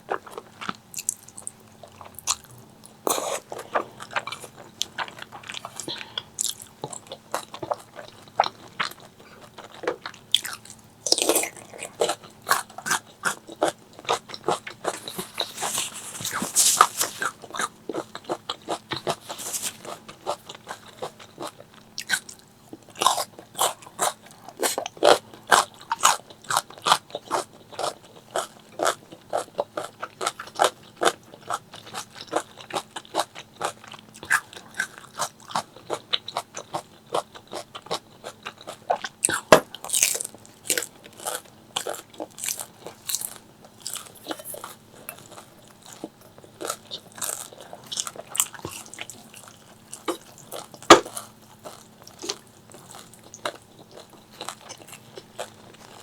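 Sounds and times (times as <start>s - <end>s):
person chewing crispy fried chicken: 0.0s - 56.0s.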